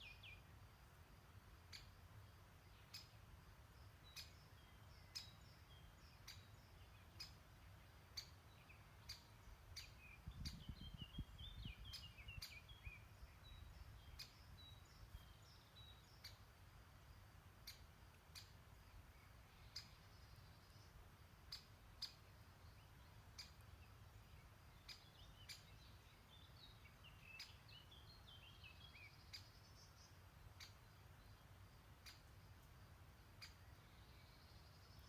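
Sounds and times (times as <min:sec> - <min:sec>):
bird chirping: 0:00.0 - 0:00.6, 0:01.5 - 0:16.7, 0:17.6 - 0:35.0.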